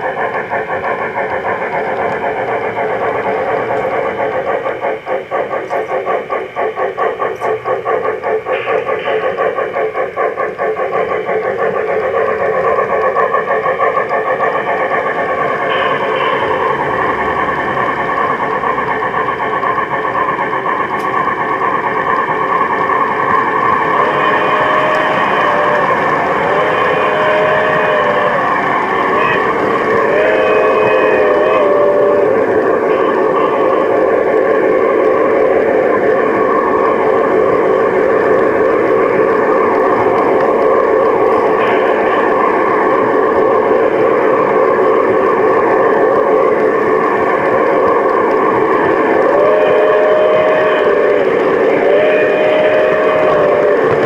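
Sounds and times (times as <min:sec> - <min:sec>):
model locomotive gears whirring: 0:00.0 - 0:54.0.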